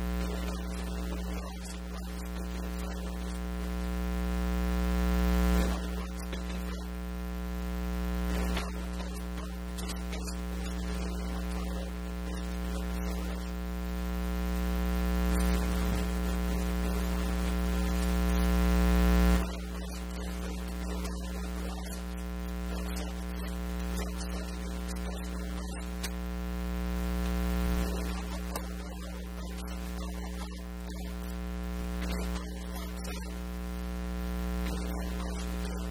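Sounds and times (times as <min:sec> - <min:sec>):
electrical mains hum: 0:00.0 - 0:35.9.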